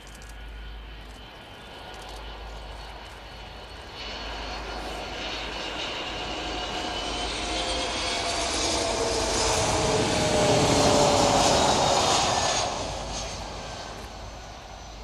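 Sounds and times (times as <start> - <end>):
jet engines whining: 0.1 - 15.0.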